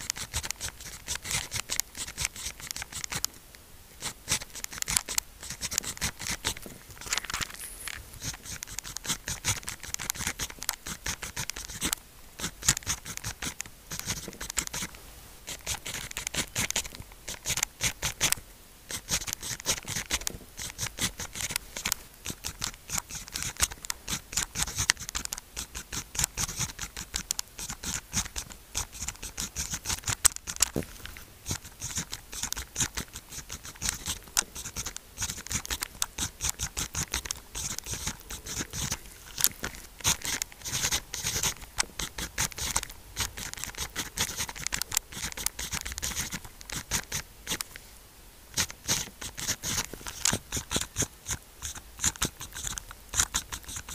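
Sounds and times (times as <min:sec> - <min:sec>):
pen scratching on paper: 0:00.0 - 0:03.3, 0:04.0 - 0:47.6, 0:48.6 - 0:53.9.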